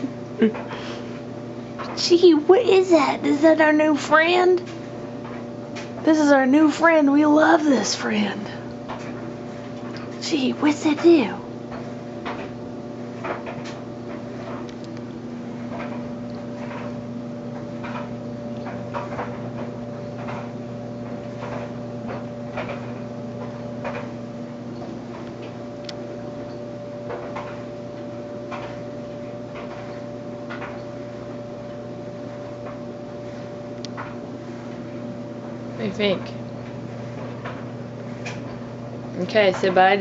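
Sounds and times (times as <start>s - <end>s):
washing machine motor hum: 0.0s - 40.0s
washing machine swishes and clicks: 1.1s - 25.9s, 27.0s - 40.0s.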